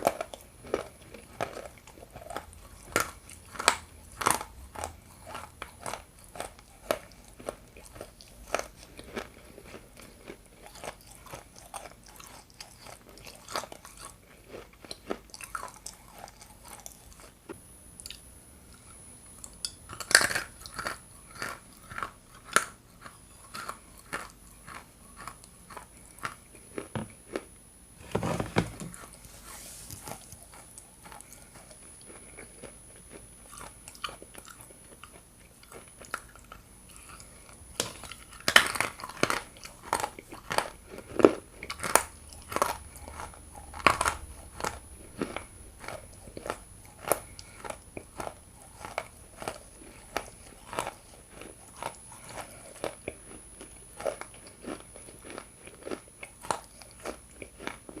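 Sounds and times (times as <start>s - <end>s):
crunchy clay being chewed: 0.0s - 27.6s, 28.9s - 58.0s.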